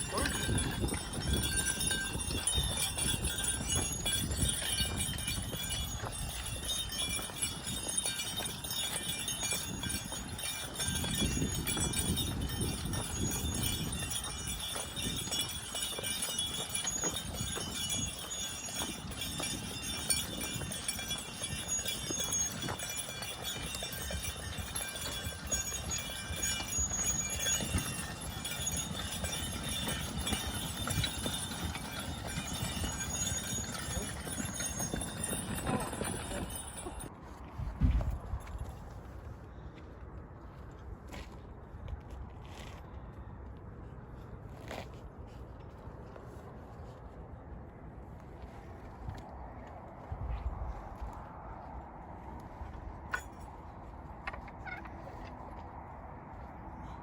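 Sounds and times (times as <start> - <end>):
horse hooves thudding: 0.0 - 39.2, 48.4 - 57.0.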